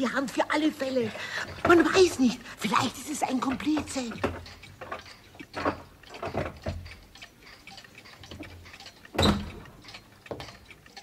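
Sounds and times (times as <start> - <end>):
clocks ticking: 0.0 - 11.0.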